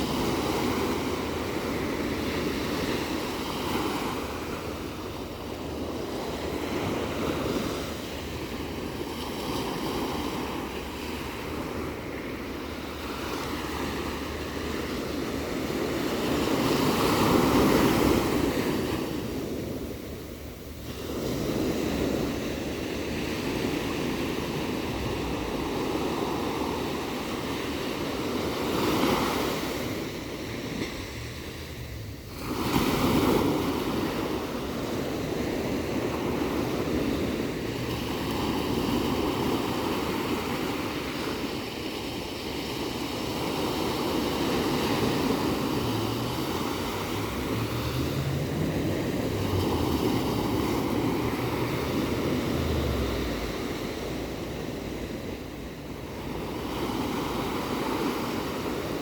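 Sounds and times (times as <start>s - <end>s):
ocean waves washing onto shore: 0.0s - 59.0s
wind on microphone: 0.0s - 59.0s.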